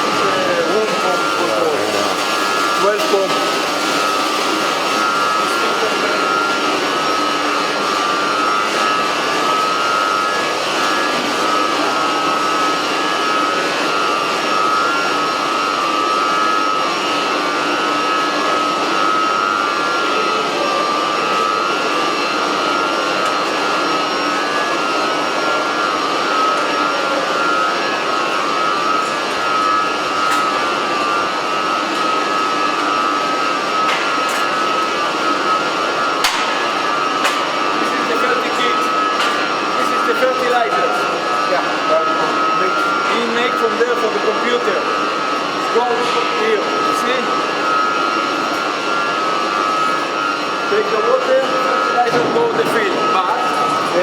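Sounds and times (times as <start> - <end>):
machine whining: 0.0 - 54.0.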